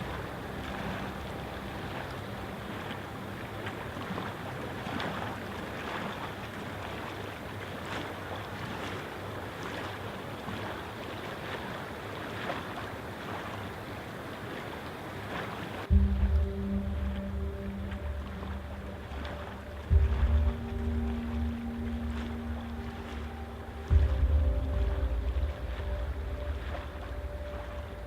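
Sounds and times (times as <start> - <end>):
flowing water rushing: 0.0 - 28.0
small water splashes: 0.0 - 28.0.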